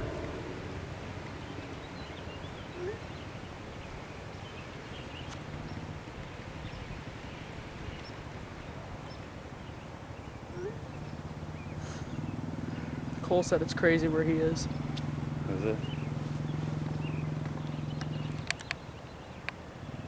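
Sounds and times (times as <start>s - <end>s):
short rising calls: 0.0s - 18.8s
wind noise: 0.0s - 20.0s
faint bird chirps: 1.3s - 20.0s.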